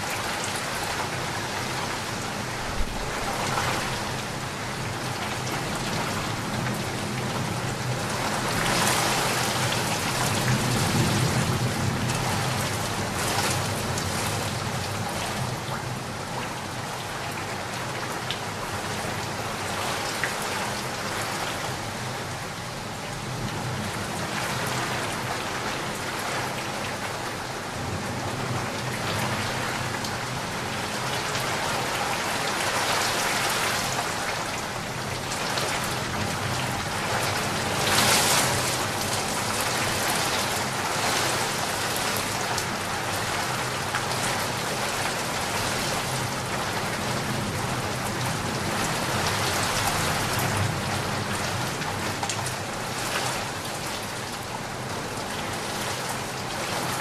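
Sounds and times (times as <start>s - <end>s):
floodwater rushing: 0.0s - 22.4s, 23.8s - 57.0s
heavy rain pouring: 0.0s - 57.0s.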